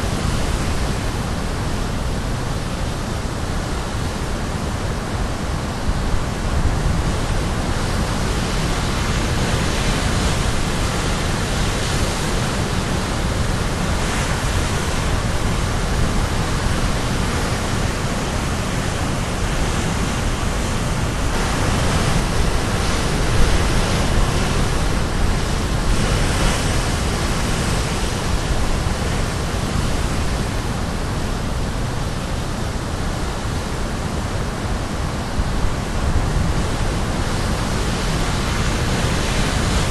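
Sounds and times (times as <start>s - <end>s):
sea waves crashing on shore: 0.0s - 39.9s.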